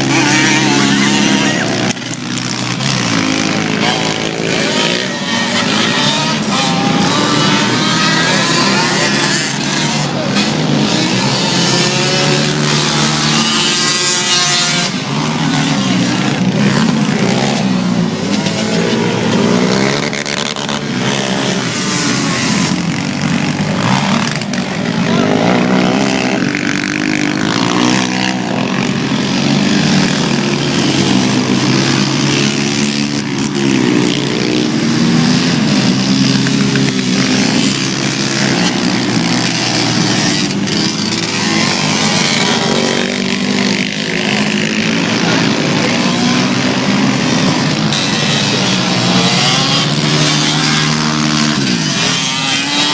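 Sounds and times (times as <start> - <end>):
racing engines revving past: 0.0 - 52.9.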